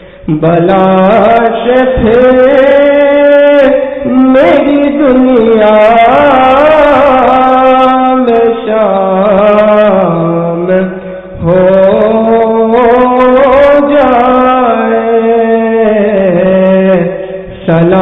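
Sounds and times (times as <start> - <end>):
solo voice singing: 0.0 - 18.0.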